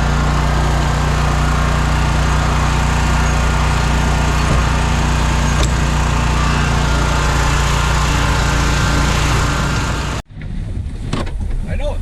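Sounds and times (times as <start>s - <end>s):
lawn mower engine running: 0.0s - 10.2s.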